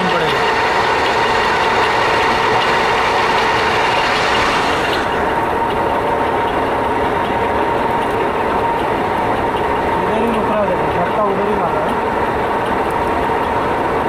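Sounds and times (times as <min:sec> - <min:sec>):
lathe running with whine: 0:00.0 - 0:14.0.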